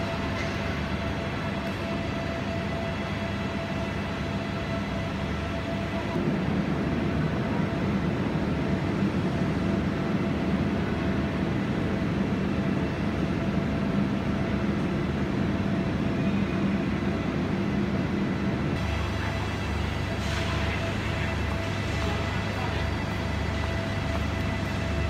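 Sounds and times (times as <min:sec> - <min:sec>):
diesel train engines idling: 0:00.0 - 0:17.6, 0:18.2 - 0:25.0.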